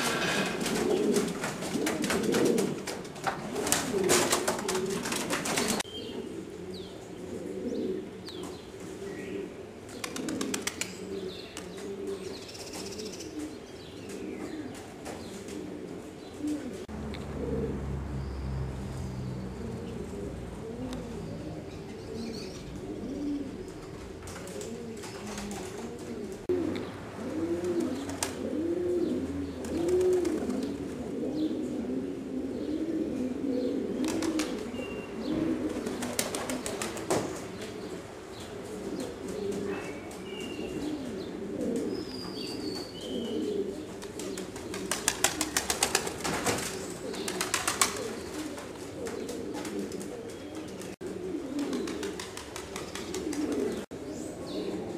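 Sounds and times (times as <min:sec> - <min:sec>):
pigeons cooing: 0:00.0 - 0:54.9.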